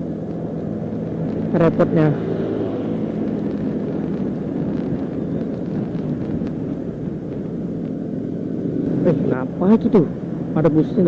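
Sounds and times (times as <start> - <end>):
motorcycle engine rumble: 0.0 - 11.0
wind noise on microphone: 0.0 - 11.0.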